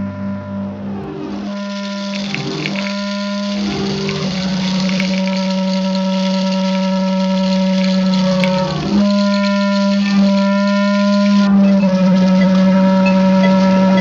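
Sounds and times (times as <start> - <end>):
steady droning tone: 0.0 - 14.0.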